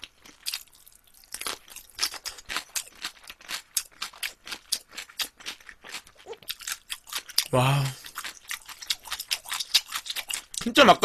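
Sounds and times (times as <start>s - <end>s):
wet crunchy chewing: 0.0s - 10.8s.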